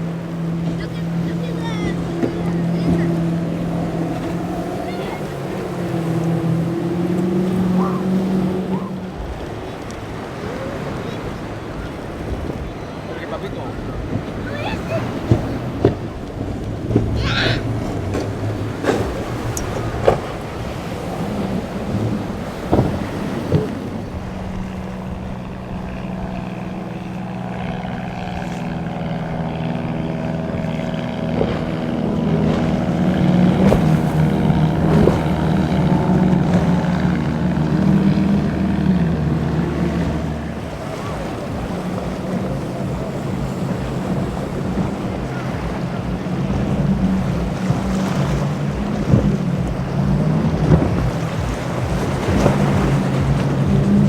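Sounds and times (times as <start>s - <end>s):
motorboat engines: 0.0s - 54.0s
water noise: 0.0s - 54.0s
wind: 0.0s - 54.0s.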